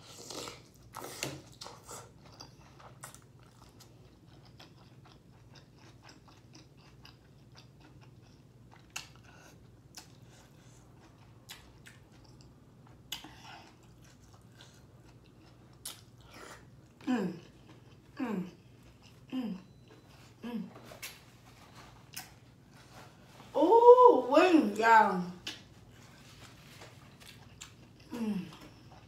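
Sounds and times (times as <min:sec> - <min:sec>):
person chewing food: 0:00.0 - 0:23.4, 0:25.4 - 0:29.0.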